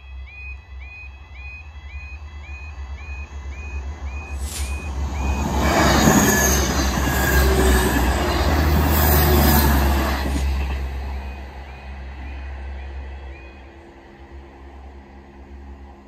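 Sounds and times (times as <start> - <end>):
train wheel squeal: 0.0 - 14.9
diesel train rumbling past: 0.0 - 16.0.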